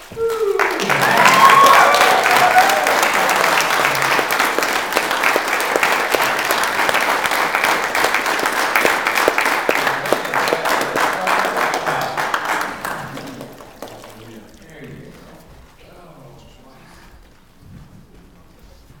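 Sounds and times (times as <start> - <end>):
people clapping: 0.0 - 15.5.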